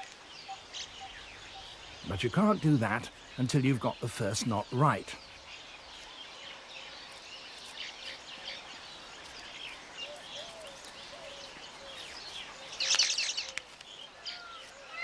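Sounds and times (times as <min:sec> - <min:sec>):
weaverbirds chirping and chattering: 0:00.0 - 0:15.0.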